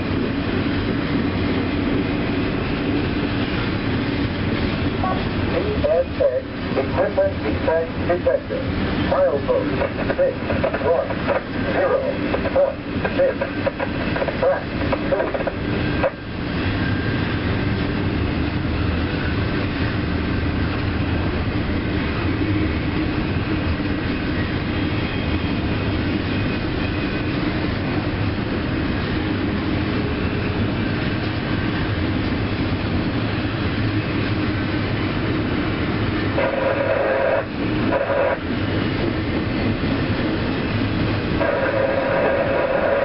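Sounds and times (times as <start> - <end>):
train wheels on rails: 0.0 - 43.0.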